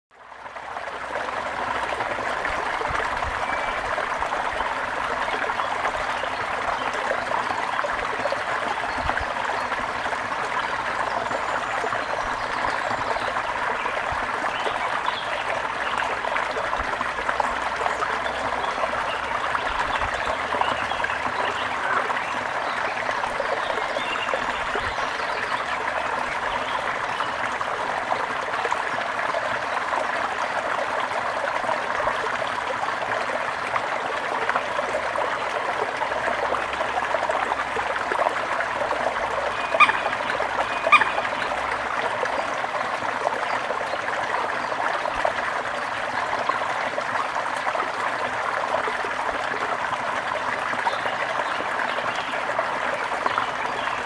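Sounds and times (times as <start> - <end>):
stream trickling and gurgling: 0.1 - 54.0.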